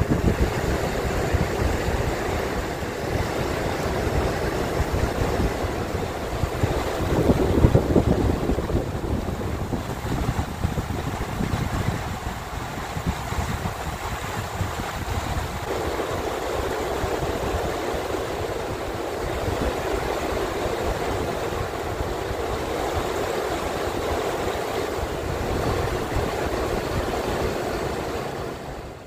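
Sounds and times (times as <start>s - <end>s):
river rapids rushing over rocks: 0.0s - 29.0s
wind rumble on microphone: 0.0s - 29.0s.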